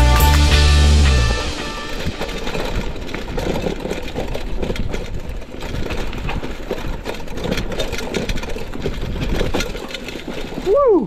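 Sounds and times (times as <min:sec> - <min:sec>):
tyres crunching through dry leaves: 0:00.0 - 0:10.7
bike chain and frame rattling: 0:00.0 - 0:11.0
low wind rumble: 0:00.0 - 0:11.0.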